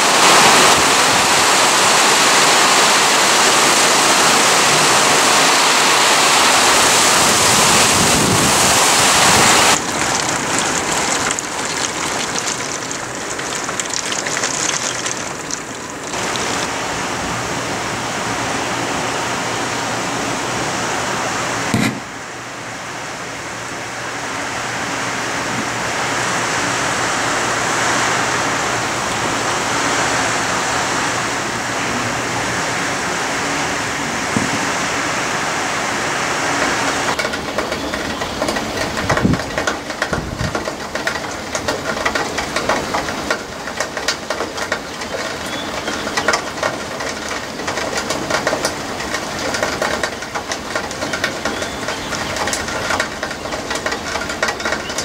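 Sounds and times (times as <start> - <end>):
heavy rain pouring: 0.0 - 55.0
light rain and dripping water: 0.0 - 55.0.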